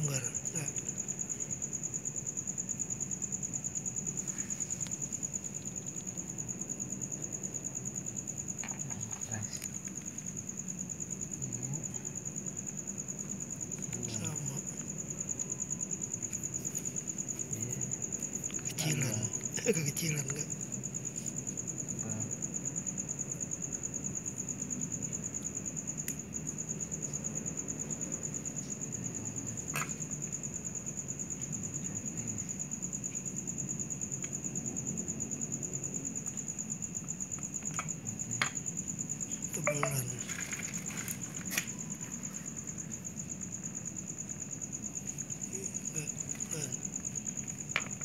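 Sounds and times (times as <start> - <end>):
cricket trilling: 0.0 - 48.0.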